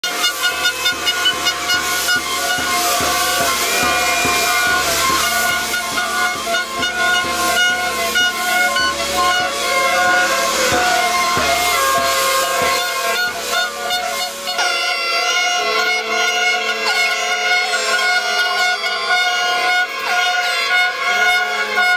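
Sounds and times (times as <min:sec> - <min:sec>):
air horns sounding: 0:00.0 - 0:21.9
hiss: 0:00.0 - 0:21.9.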